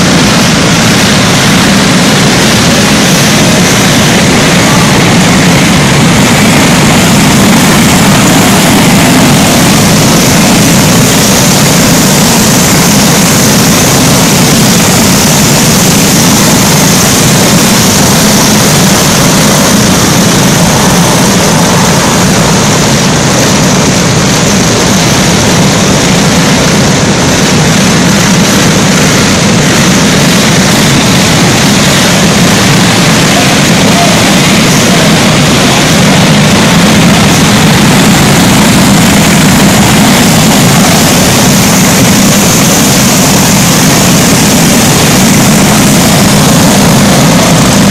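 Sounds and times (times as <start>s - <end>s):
go-kart engines droning: 0.0s - 47.9s.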